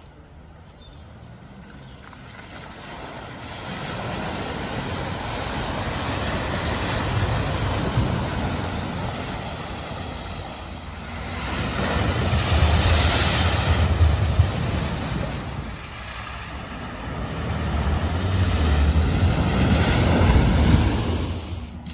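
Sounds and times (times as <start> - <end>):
vehicle engine rumble: 0.0 - 21.9
water rushing from wheels: 0.0 - 21.9
water splash: 2.0 - 21.9.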